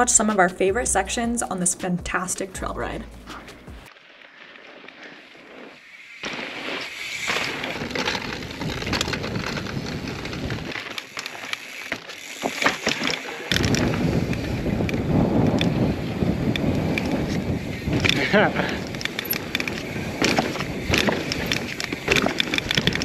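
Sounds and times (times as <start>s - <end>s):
tyre and wind noise: 3.2s - 23.0s
bike clicks and rattles: 3.3s - 23.0s.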